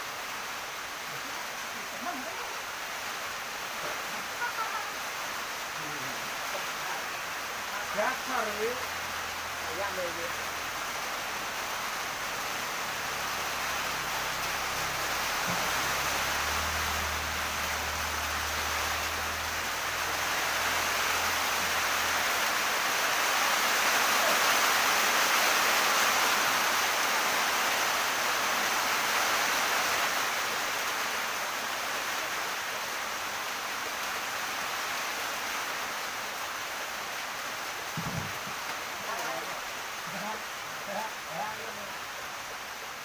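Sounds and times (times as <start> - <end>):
water rushing: 0.0 - 43.0.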